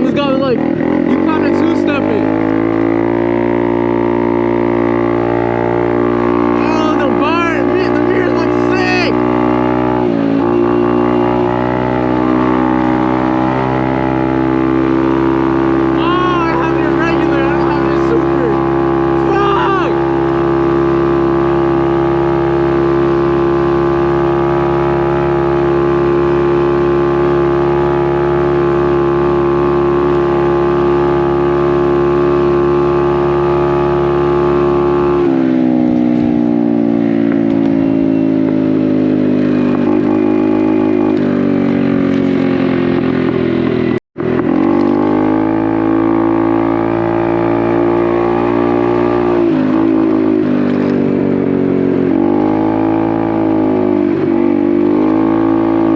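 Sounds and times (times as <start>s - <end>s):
motorcycle engine: 0.0s - 55.9s.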